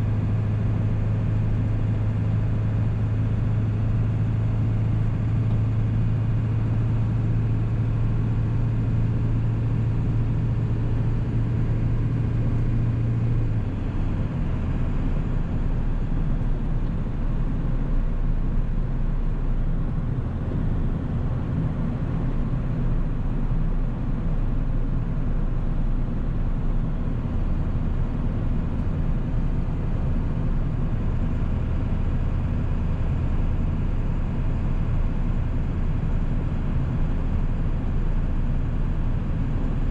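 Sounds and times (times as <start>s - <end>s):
diesel engine running: 0.0s - 39.9s
road noise: 0.0s - 39.9s.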